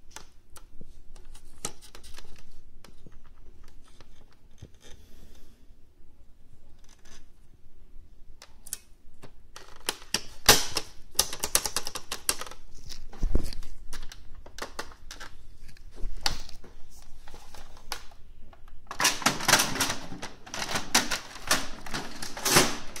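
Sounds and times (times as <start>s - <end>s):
plastic printer parts clicking: 0.0s - 5.0s, 8.4s - 16.6s, 17.4s - 23.0s.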